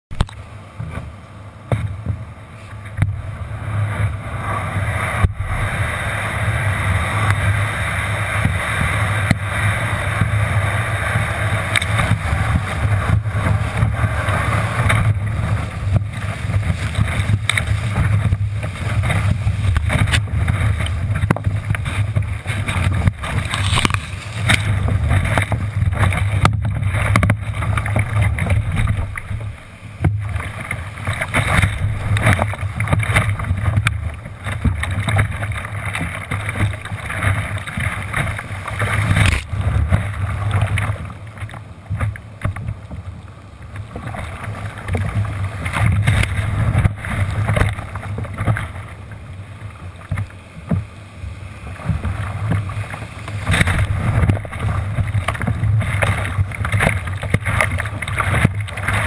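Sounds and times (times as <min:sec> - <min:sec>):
water splashing against hull: 0:00.1 - 0:59.0
wind rumbling on microphone: 0:00.1 - 0:59.0.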